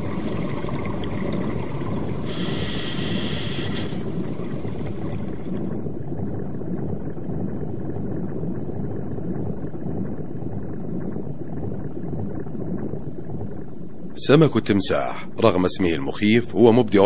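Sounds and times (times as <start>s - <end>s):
underwater rushing noise: 0.0s - 17.0s.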